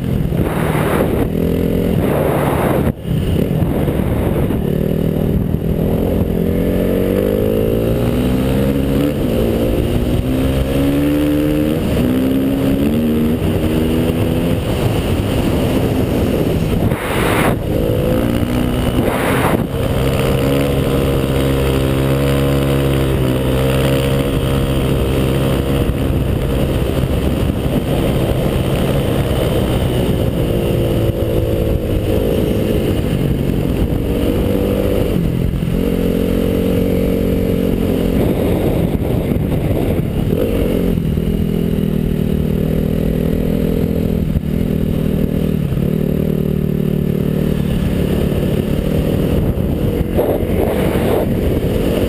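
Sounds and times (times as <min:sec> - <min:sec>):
snowmobile engine running: 0:00.0 - 0:52.0.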